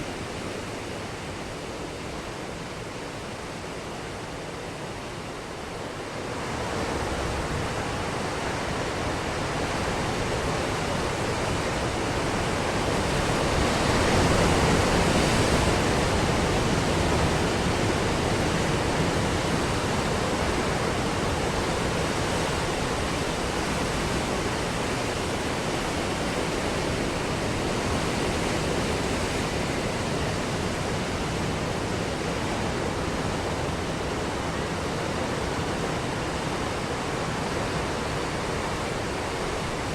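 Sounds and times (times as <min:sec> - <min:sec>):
ocean waves breaking: 0:06.2 - 0:39.9.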